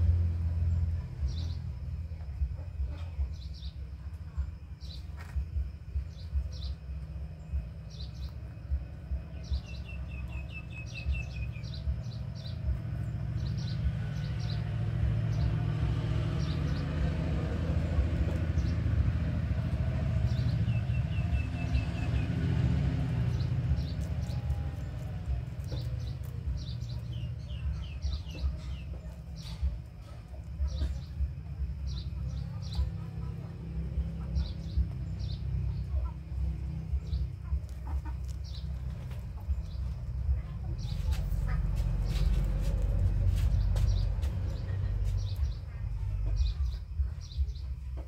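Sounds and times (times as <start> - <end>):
small birds chirping: 0.0 - 48.0
steady low rumble: 0.0 - 48.0.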